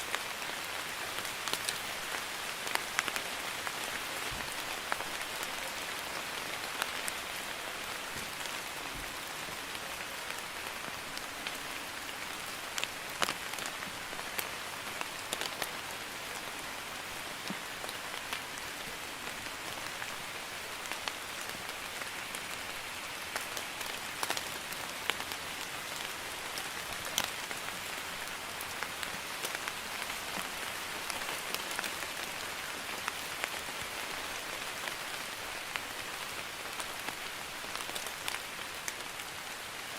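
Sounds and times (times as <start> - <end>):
light rain hiss: 0.0 - 39.9
raindrops clicking on a surface: 0.0 - 39.9.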